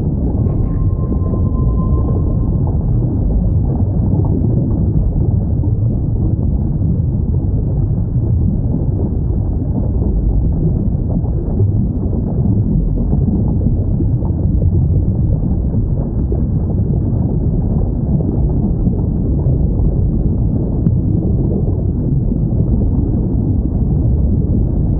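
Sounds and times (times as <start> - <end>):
deep underwater rumble: 0.0 - 24.9.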